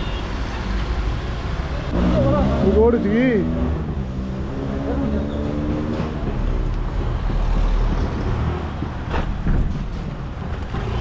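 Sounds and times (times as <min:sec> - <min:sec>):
street traffic: 0:00.0 - 0:11.0
vehicle engine rumbling: 0:00.0 - 0:11.0.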